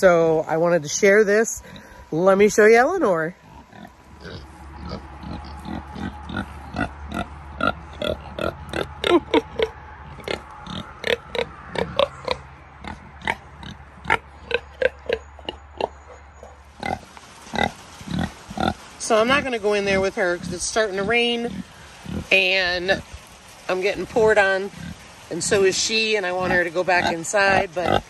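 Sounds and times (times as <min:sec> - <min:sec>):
pigs grunting and oinking: 0:03.4 - 0:23.2, 0:24.0 - 0:28.0.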